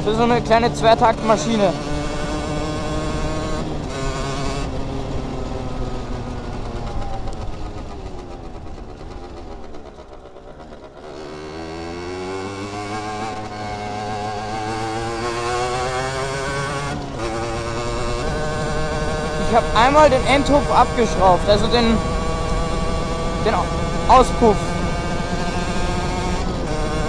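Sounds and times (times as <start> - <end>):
moped engine revving: 0.0 - 27.0.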